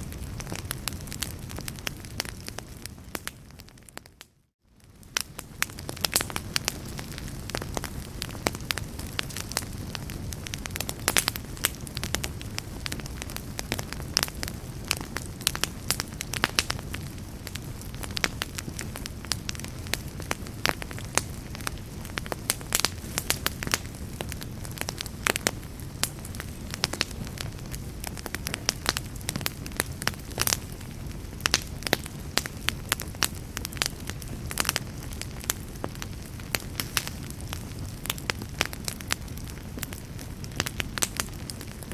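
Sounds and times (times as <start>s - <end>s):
fire flame rumbling: 0.0s - 41.9s
wood fire popping and crackling: 0.0s - 41.9s.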